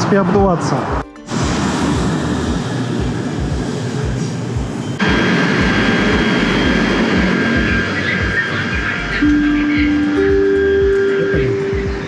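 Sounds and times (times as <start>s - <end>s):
train rumbling: 0.0s - 12.0s
high-pitched whine: 1.2s - 12.0s.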